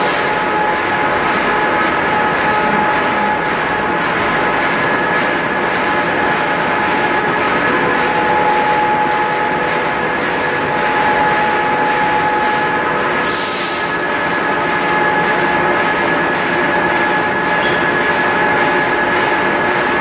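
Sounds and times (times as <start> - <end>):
factory machinery drone: 0.0 - 20.0
machinery whining tones: 0.0 - 20.0.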